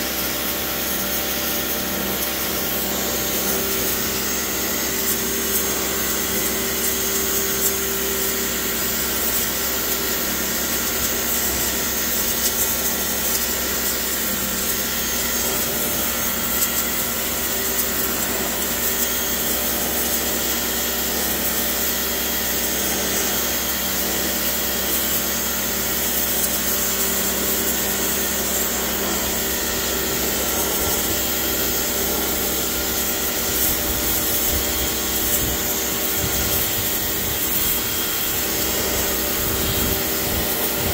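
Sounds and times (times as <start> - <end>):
pressure washer motor: 0.0 - 40.9
water jet hissing on wood: 0.0 - 40.9.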